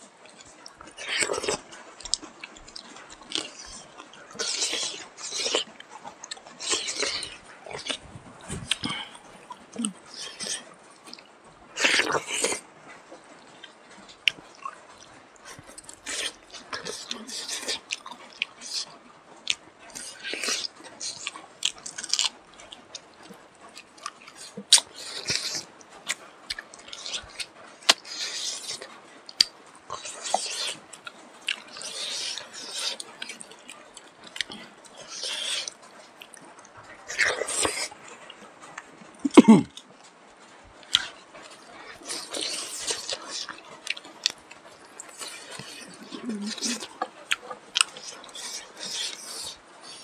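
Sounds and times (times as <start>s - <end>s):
people chewing and biting: 0.0s - 50.0s
mouth clicks: 0.3s - 40.0s, 40.7s - 50.0s.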